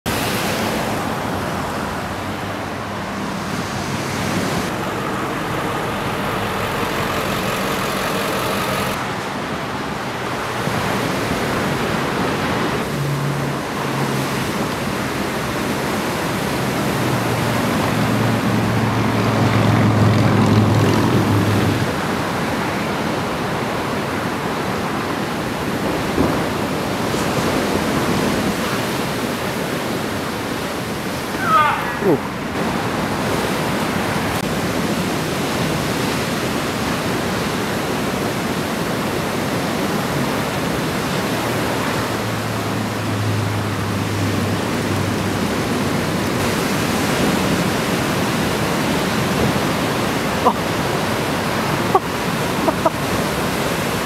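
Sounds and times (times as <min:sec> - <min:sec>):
wind: 0:00.0 - 0:54.0
ocean surf: 0:00.1 - 0:54.0.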